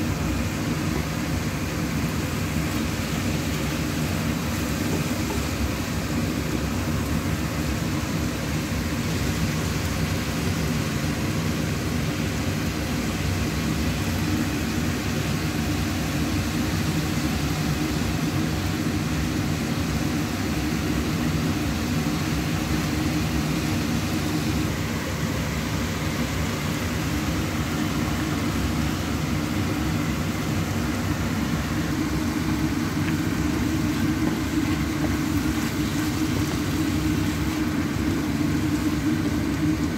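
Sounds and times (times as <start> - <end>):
low mechanical drone: 0.0 - 39.9.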